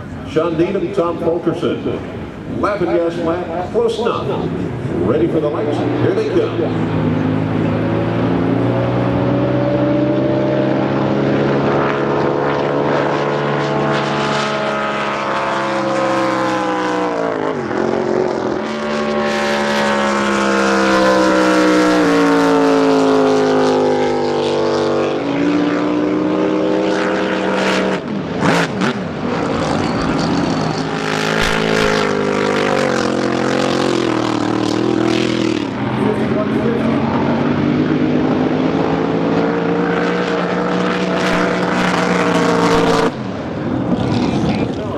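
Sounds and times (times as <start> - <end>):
racing boat engines passing: 1.9 - 44.9.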